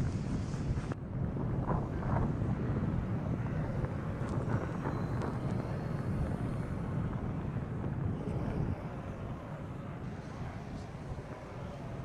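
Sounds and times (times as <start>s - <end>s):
blizzard wind blowing: 0.0s - 12.0s
wind buffeting microphone: 0.0s - 12.0s.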